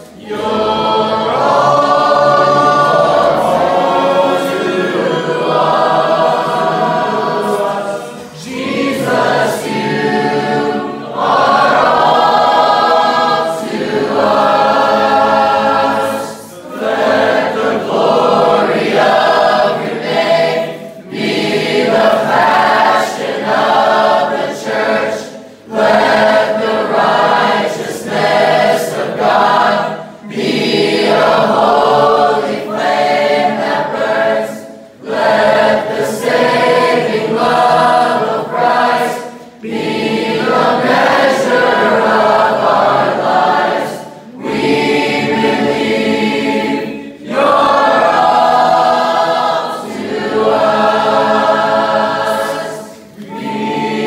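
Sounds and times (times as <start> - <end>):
group singing a worship song: 0.0 - 54.0.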